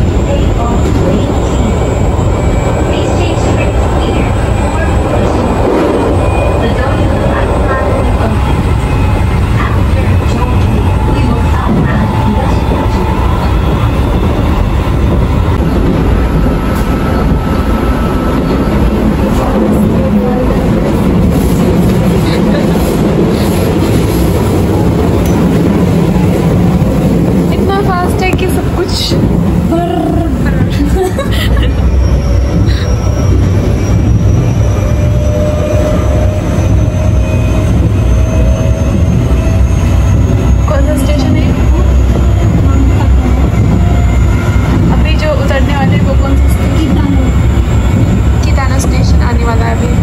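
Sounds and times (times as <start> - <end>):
train wheels rumbling on track: 0.0 - 50.0.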